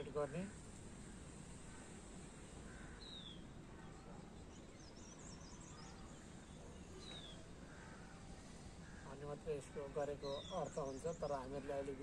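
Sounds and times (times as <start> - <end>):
distant bird calls: 0.0 - 12.0
faint background hiss: 0.0 - 12.0.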